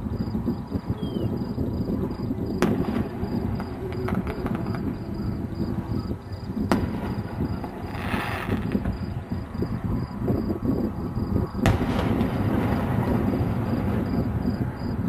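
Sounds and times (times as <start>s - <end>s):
faint firework crackles: 0.0s - 15.0s
steady low rumble: 0.0s - 15.0s
distant firework bangs: 0.6s - 15.0s.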